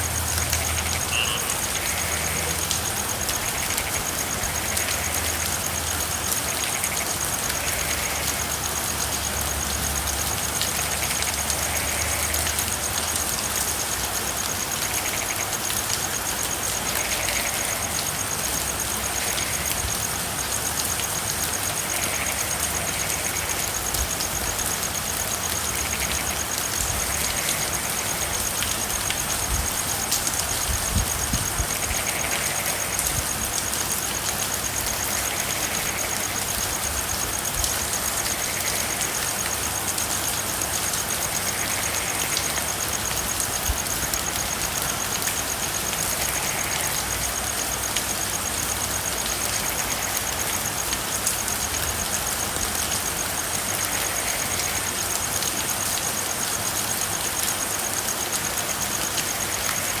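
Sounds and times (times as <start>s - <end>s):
frogs calling: 0.0s - 60.0s
steady rain falling: 0.0s - 60.0s.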